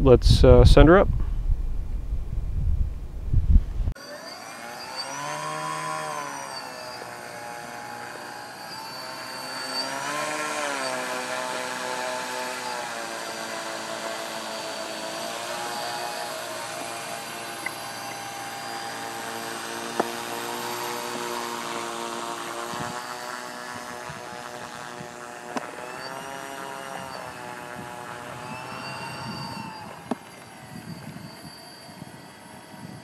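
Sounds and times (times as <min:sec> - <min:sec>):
model airplane propellers humming: 0:03.9 - 0:33.0.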